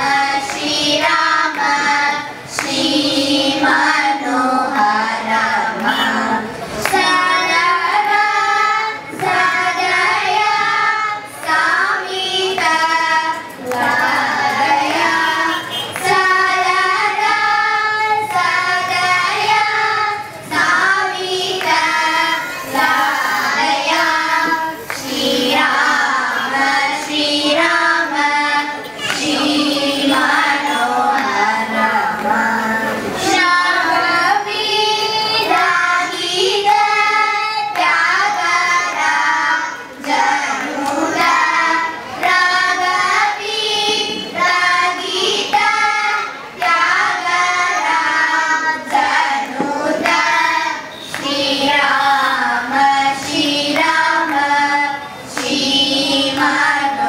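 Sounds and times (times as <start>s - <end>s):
girls singing in unison: 0.0s - 57.0s.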